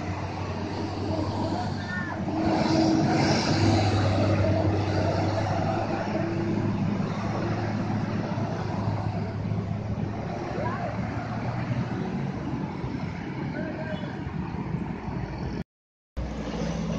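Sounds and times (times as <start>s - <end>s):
motorcycles passing: 0.0s - 15.4s
car passing: 0.0s - 15.6s
truck diesel engines running: 0.0s - 15.6s.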